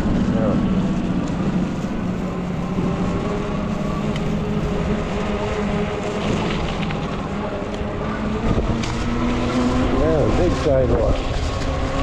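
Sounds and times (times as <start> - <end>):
e-bike motor and tyres humming: 0.0 - 12.0
wind rushing: 0.0 - 12.0.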